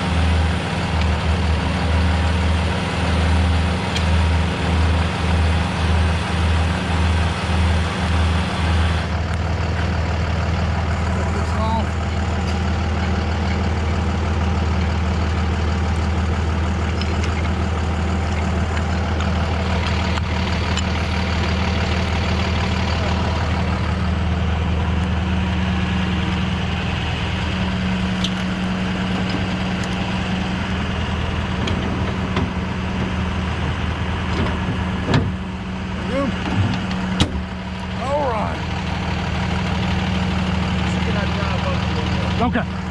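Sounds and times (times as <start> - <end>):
truck engine idling hum: 0.0 - 42.9.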